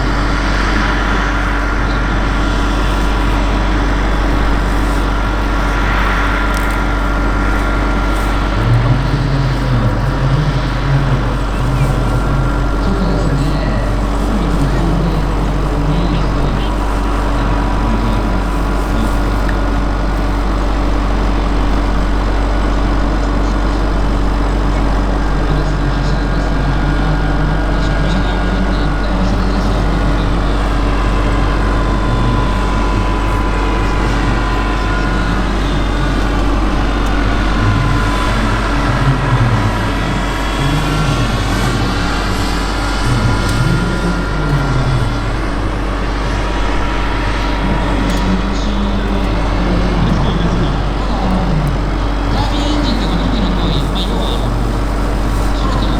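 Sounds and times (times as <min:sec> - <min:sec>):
rc helicopter whine: 0:00.0 - 0:55.9.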